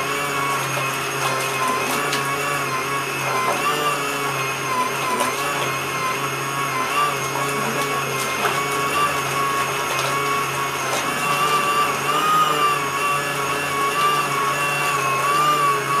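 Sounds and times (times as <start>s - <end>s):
washing machine motor whining: 0.0s - 16.0s.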